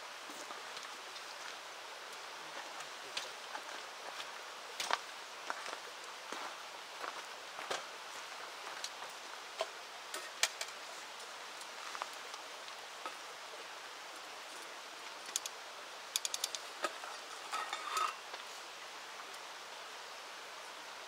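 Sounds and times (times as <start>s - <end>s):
river water running: 0.0s - 21.0s.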